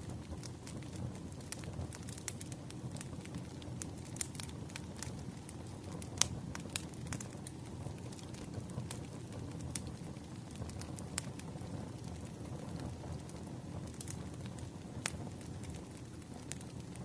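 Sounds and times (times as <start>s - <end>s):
fire popping and crackling: 0.0s - 17.0s
low rumble of flames: 0.0s - 17.0s.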